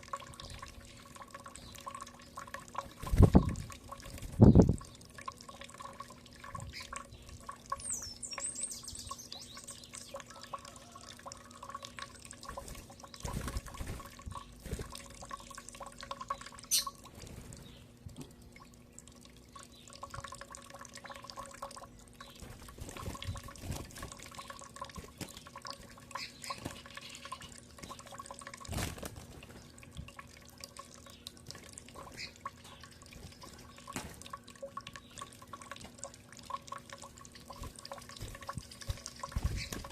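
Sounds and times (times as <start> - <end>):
birds tapping and clicking: 0.0 - 39.9
faint steady hum: 0.0 - 39.9.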